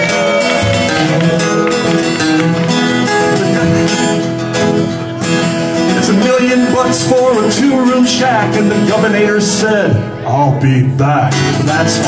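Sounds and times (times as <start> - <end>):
acoustic guitars strumming: 0.0 - 12.0.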